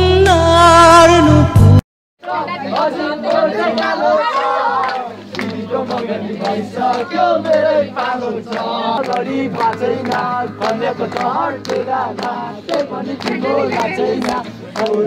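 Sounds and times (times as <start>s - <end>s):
crowd singing together: 2.2s - 15.0s.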